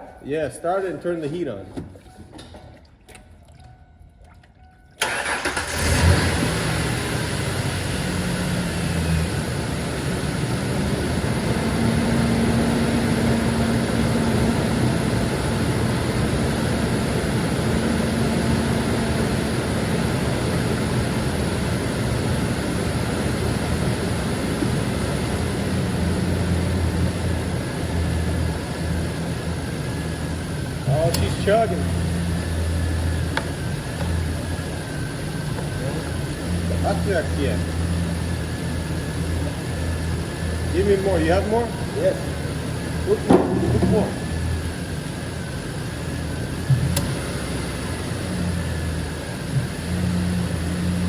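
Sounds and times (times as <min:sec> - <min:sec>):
pickup engine starting and idling: 0:04.6 - 0:51.0.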